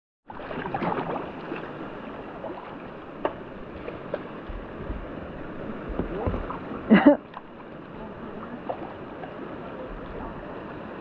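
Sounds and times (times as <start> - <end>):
water splashes: 0.3 - 11.0
whitewater rushing: 0.3 - 11.0.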